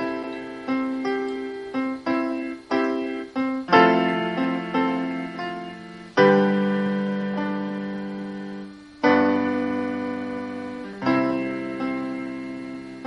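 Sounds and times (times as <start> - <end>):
gentle solo piano melody: 0.0 - 13.0.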